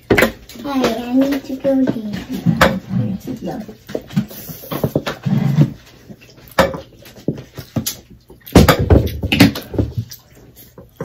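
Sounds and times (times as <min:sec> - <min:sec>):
dishes and utensils clattering: 0:00.0 - 0:11.0.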